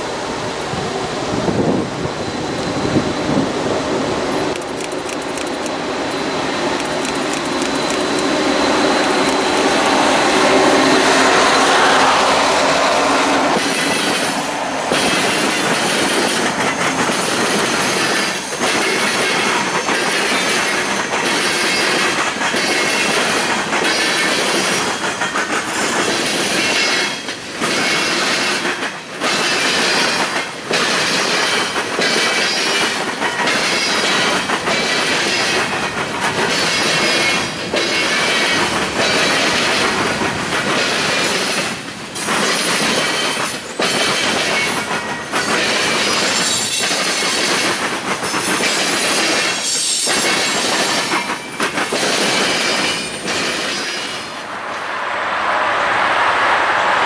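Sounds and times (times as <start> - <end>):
train wheels rushing on rails: 0.0 - 57.0.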